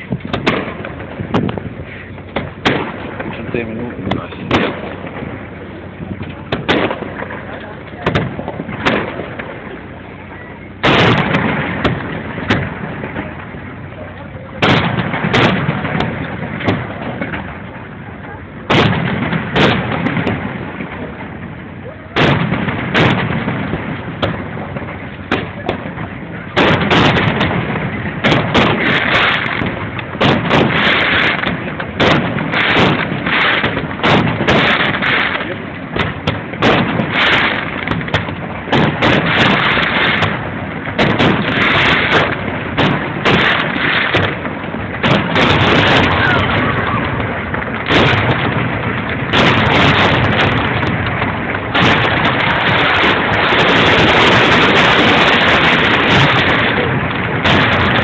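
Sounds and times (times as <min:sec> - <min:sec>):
continuous noisy wash: 0:00.0 - 0:58.0
continuous rumble: 0:00.0 - 0:58.0
fireworks bursting with loud bangs: 0:00.0 - 0:58.0.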